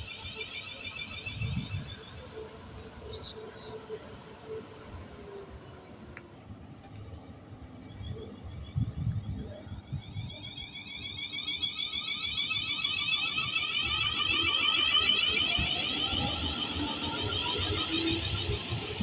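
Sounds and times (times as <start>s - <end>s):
train high-pitched ringing whine: 0.0s - 19.0s.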